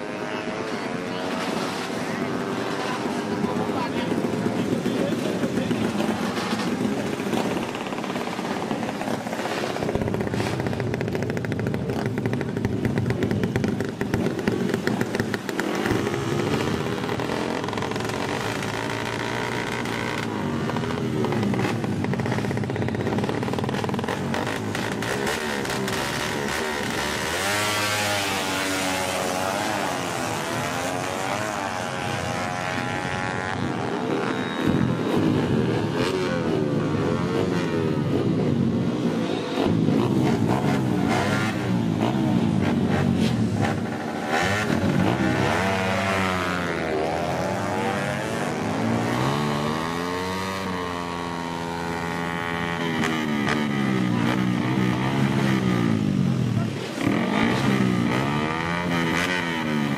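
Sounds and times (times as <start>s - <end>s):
motorcycles idling and revving: 0.0s - 59.9s.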